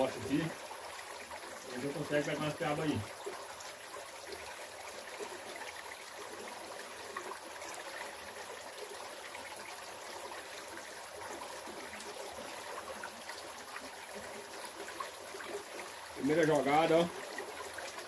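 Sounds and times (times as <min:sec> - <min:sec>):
creek flowing and trickling: 0:00.0 - 0:18.0.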